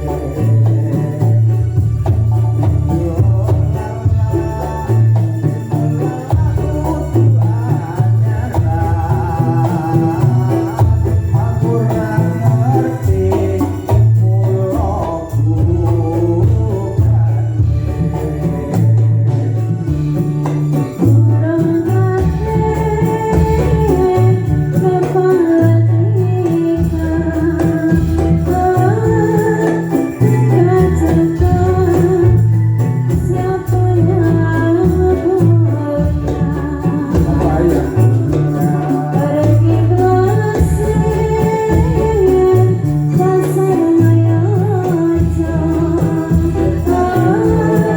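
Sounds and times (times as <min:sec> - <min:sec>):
drums and electronic organ: 0:00.0 - 0:47.9
person singing: 0:00.0 - 0:47.9.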